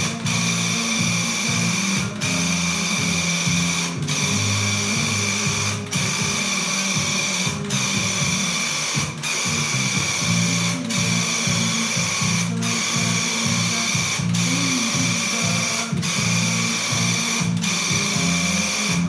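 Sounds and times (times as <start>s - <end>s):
paint sprayer pump buzzing: 0.0s - 19.0s.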